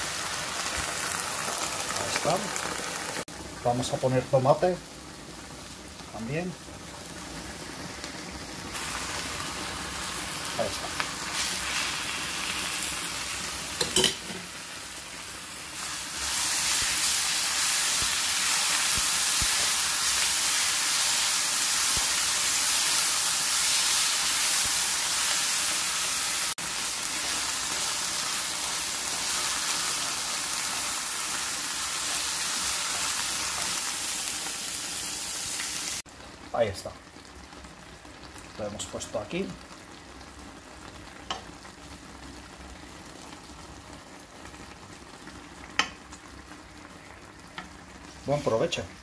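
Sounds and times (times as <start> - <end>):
vegetables sizzling in frying pan: 0.0 - 49.0.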